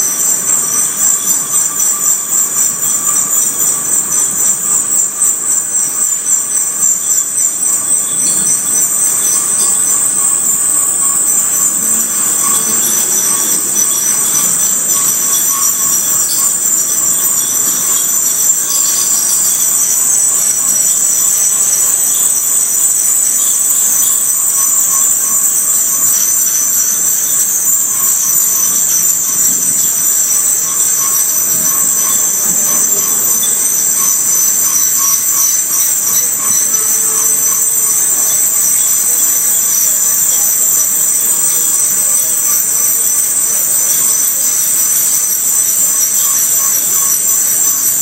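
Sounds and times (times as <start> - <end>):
high-pitched metallic squeal: 0.0 - 48.0
train rolling slowly: 0.0 - 48.0.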